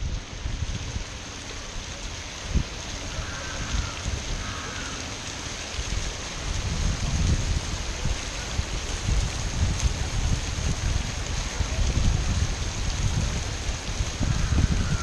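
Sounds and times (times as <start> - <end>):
water fountain splashing: 0.0 - 15.0
wind buffeting microphone: 0.0 - 15.0.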